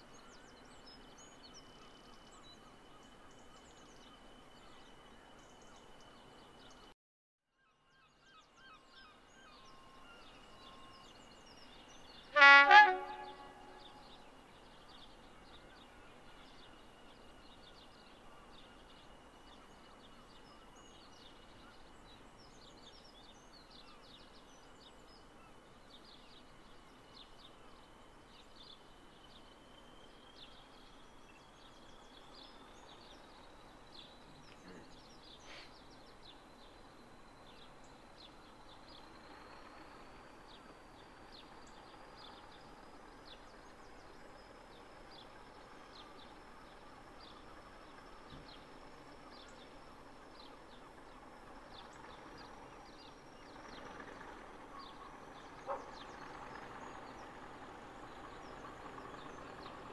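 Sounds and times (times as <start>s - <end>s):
birds chirping: 9.1s - 59.9s
diesel locomotive engine: 9.2s - 59.9s.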